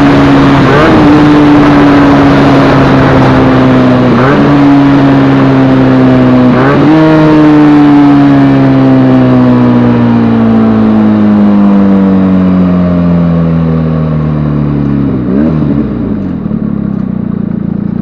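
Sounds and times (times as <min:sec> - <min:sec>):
vehicle engine decelerating: 0:00.0 - 0:18.0.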